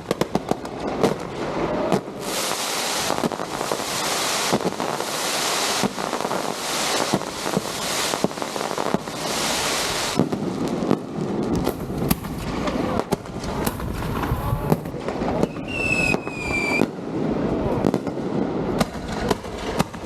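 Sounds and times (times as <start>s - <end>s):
fireworks hissing: 0.0s - 20.0s
sharp firework cracks: 0.0s - 20.0s.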